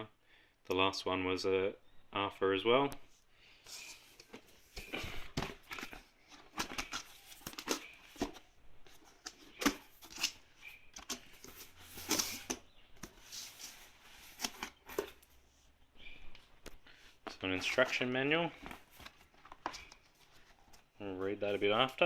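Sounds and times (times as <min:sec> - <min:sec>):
packaging rustling and scraping: 0:03.6 - 0:22.0.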